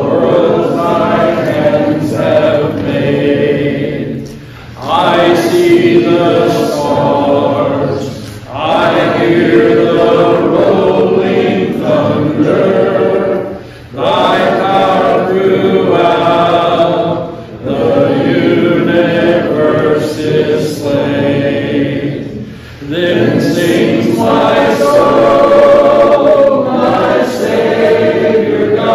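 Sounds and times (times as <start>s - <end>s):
group singing a hymn: 0.0s - 28.9s.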